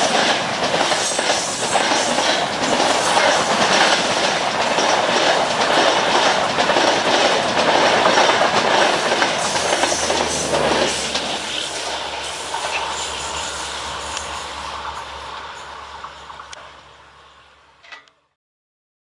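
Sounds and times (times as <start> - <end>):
train wheels clattering: 0.0 - 16.6.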